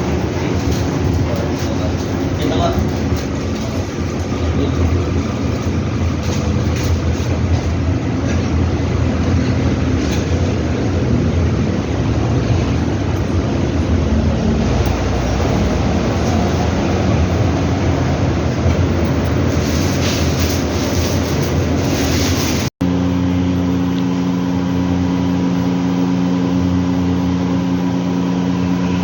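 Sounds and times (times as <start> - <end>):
washing machine rumbling: 0.0 - 29.0.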